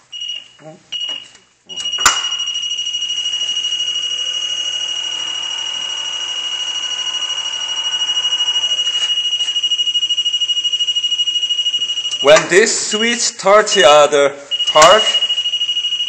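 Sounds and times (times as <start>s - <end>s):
high-pitched alarm buzzer: 1.0s - 16.0s.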